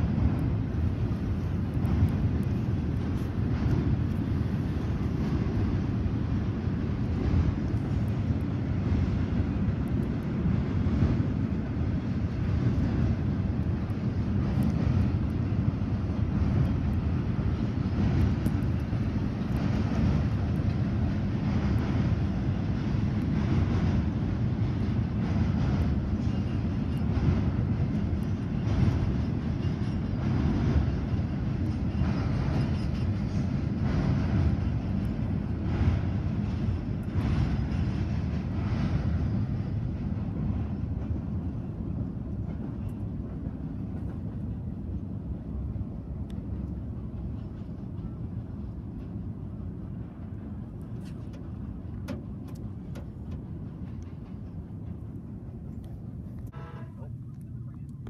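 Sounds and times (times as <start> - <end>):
freight train rumbling on bridge: 0.0 - 58.0.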